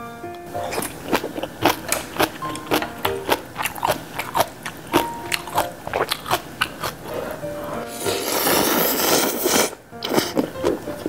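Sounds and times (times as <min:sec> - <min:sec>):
soft background music: 0:00.0 - 0:11.0
crunching and chewing cabbage: 0:00.6 - 0:11.0.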